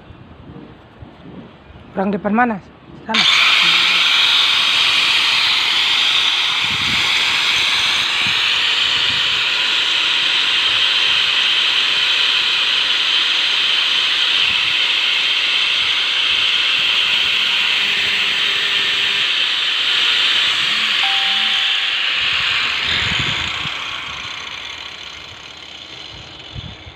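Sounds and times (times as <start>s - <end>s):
power tool grinding saw teeth: 3.1s - 26.9s.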